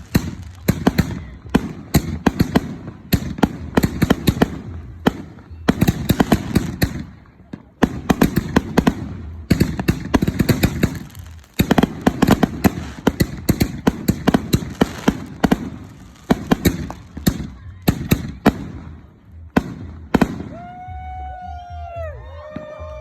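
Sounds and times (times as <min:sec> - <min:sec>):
fireworks bursting with bangs: 0:00.0 - 0:21.3.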